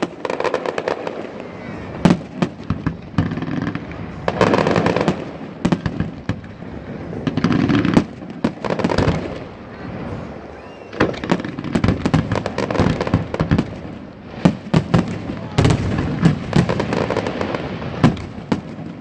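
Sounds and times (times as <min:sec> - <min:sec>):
fireworks bangs and crackles: 0:00.0 - 0:19.0
sharp loud firework reports: 0:00.0 - 0:19.0.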